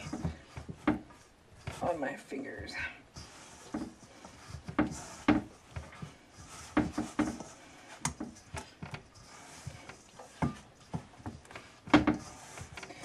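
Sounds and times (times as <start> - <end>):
dough rubbing: 0.0 - 13.0.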